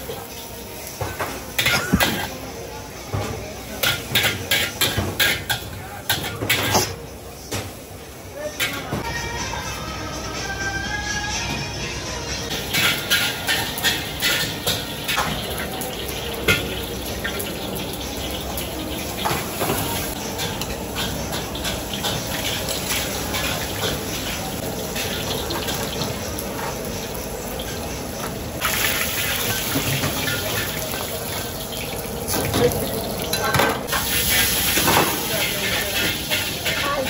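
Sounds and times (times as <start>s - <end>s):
frying hiss in wok: 0.0s - 9.4s, 12.5s - 37.0s.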